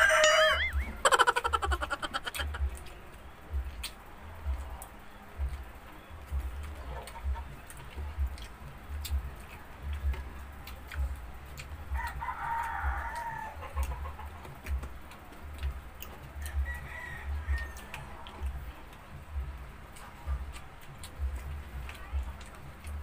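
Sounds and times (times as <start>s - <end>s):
mouth clicks: 0.0s - 23.0s
people chewing: 0.0s - 23.0s.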